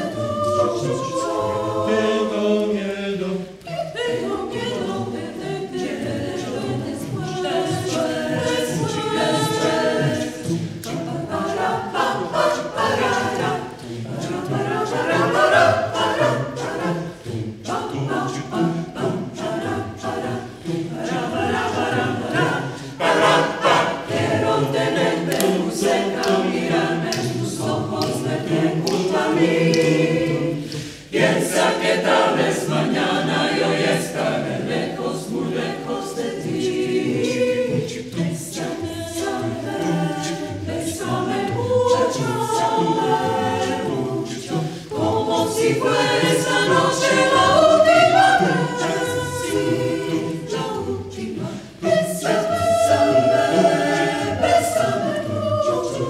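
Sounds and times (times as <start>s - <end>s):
mixed choir singing a cappella: 0.0s - 56.0s.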